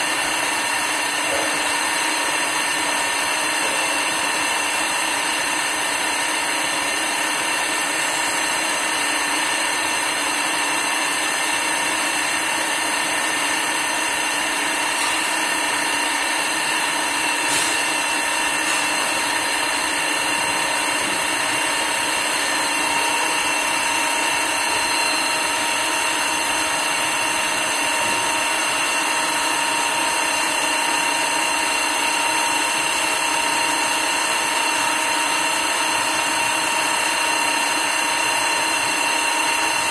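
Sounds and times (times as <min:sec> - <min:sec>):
lathe whirring and whining: 0:00.0 - 0:39.9.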